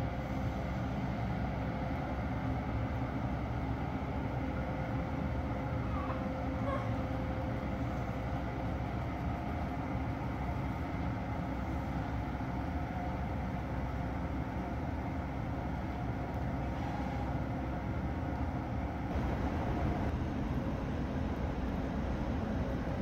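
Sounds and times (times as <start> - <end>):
electric locomotive passing: 0.0 - 23.0.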